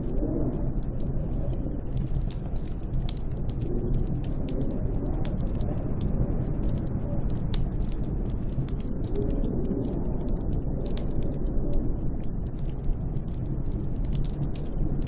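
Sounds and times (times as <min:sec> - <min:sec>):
snowstorm wind rushing: 0:00.0 - 0:12.3
small sharp crackles: 0:00.0 - 0:15.0.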